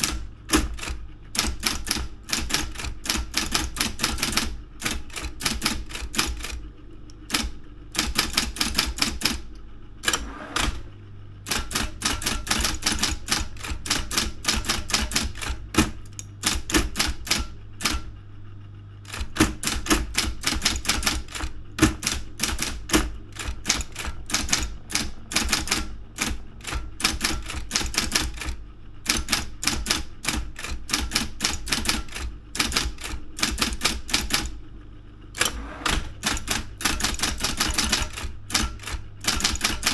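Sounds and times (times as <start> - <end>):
typewriter keystroke clacks: 0.0 - 10.9, 11.5 - 18.1, 19.1 - 34.6, 35.4 - 39.9
steady low hum: 0.0 - 39.9.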